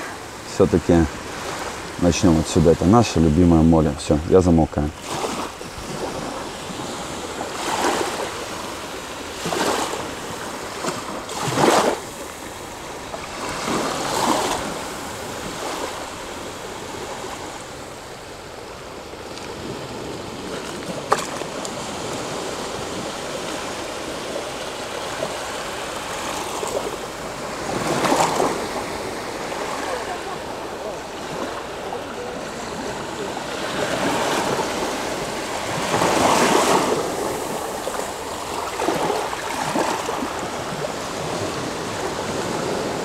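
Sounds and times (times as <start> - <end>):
small waves lapping on sand: 0.0 - 43.0.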